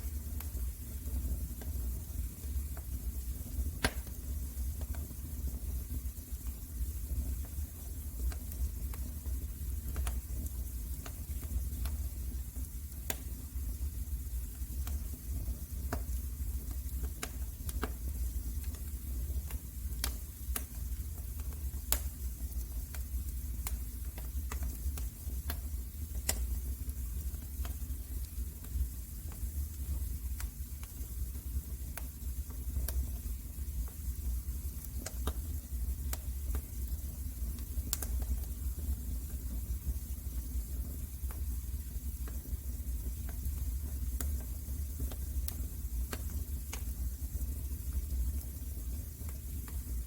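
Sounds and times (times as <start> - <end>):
fireplace fire crackling: 0.0 - 50.0.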